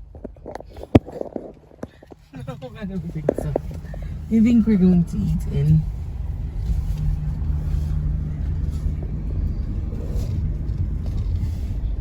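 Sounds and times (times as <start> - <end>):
car engine and road rumble: 0.0 - 12.0
low hum: 0.0 - 12.0.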